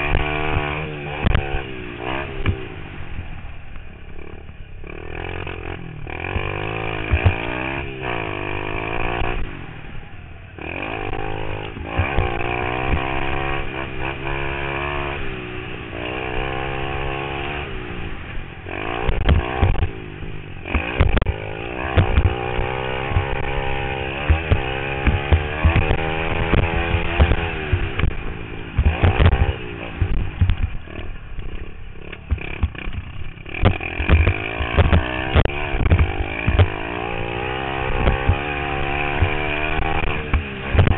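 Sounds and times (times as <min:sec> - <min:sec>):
rough low thumps: 0:00.0 - 0:09.5, 0:10.6 - 0:40.9
pit bike engine revving: 0:00.0 - 0:40.9.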